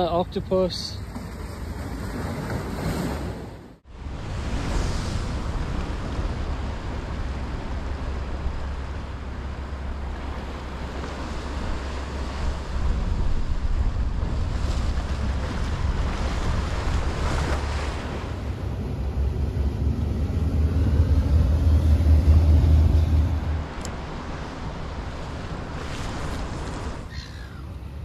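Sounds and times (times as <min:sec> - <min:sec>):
wind rumbling on microphone: 0:01.3 - 0:28.0
sea waves washing against rocks: 0:04.0 - 0:27.1.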